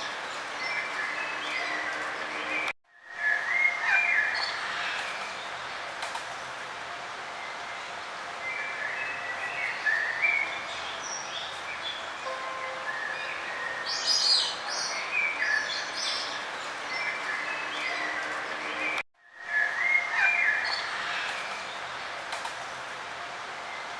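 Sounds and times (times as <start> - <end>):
steady outdoor noise: 0.0 - 23.9.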